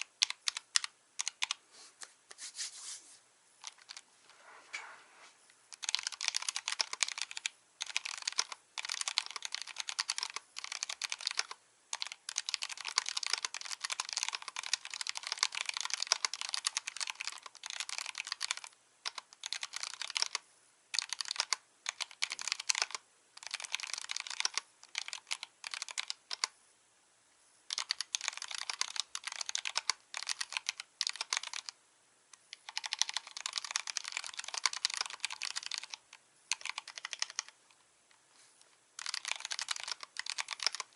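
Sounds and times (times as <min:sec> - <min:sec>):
mechanical keyboard typing: 0:00.0 - 0:01.6, 0:03.6 - 0:04.0, 0:05.7 - 0:26.5, 0:27.7 - 0:31.8, 0:32.5 - 0:37.6, 0:39.0 - 0:40.9.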